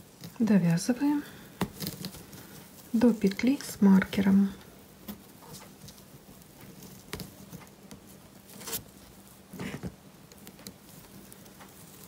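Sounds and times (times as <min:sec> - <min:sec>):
crochet hook rustling twine: 0:00.0 - 0:12.0.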